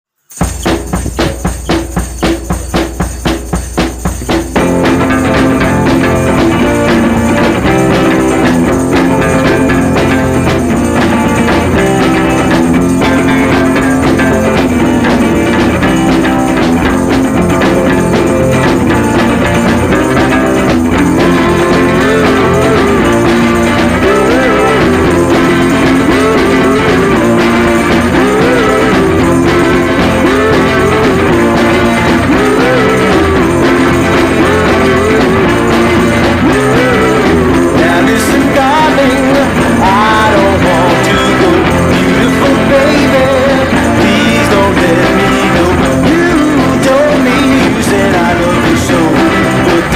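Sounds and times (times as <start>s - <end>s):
rock music with guitar: 0.3s - 49.9s.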